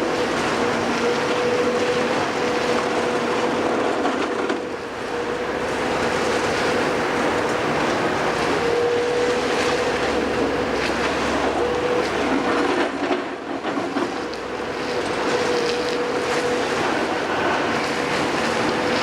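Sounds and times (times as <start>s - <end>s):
constant machine whine: 0.0s - 19.0s
demolition machinery engine: 0.0s - 19.0s.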